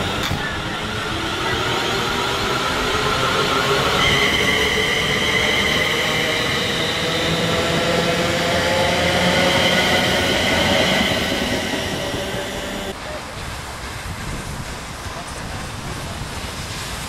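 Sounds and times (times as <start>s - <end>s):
train high whine: 0.0s - 17.0s
train wheels on rail: 0.0s - 17.0s.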